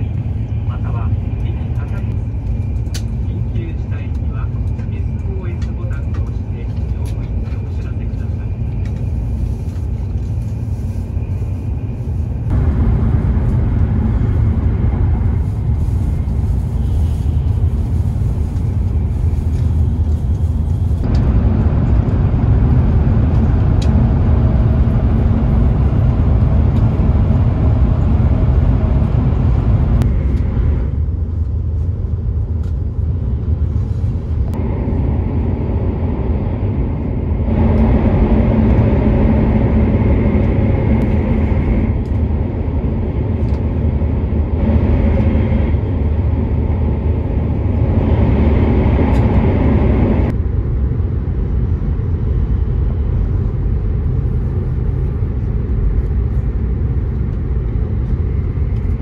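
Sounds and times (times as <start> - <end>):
hiss of track and wind: 0.0 - 59.0
train low rumble: 0.0 - 59.0.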